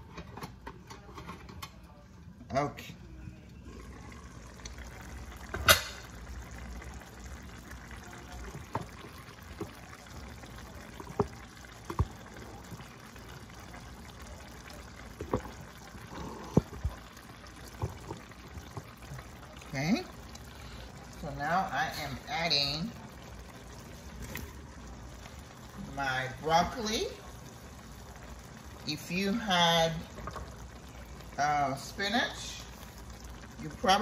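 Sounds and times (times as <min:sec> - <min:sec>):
stew simmering and bubbling: 0:00.0 - 0:34.0.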